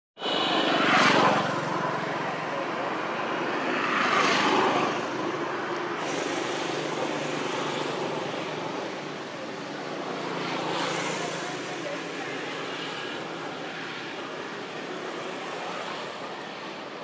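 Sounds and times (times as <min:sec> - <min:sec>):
background traffic rumble: 0:00.2 - 0:17.0
vehicles passing: 0:00.2 - 0:17.0.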